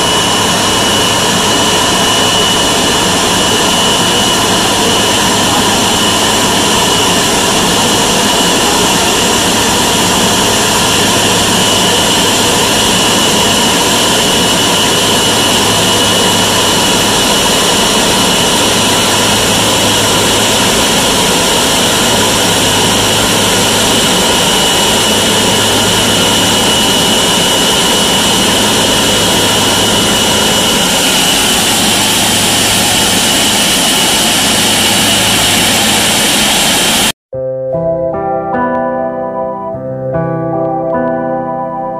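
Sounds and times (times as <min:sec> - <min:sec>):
jet engines idling: 0:00.0 - 0:37.2.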